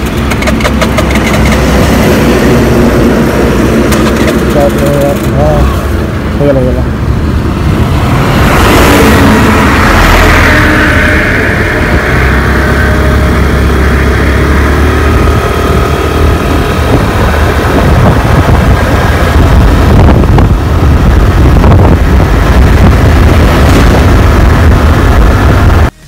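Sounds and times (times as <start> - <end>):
scooter engine accelerating: 0.0 - 6.1, 7.5 - 26.0
wind buffeting microphone: 0.0 - 26.0.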